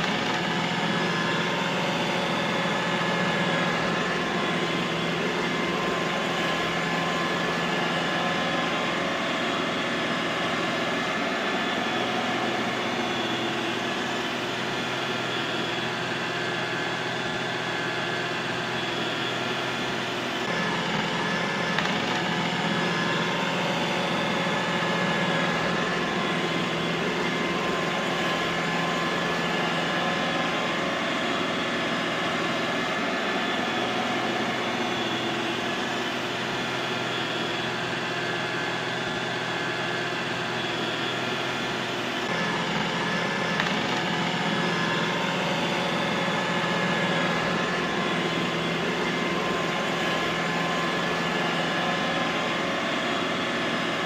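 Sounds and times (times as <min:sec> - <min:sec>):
robot vacuum motor hum: 0:00.0 - 0:54.0.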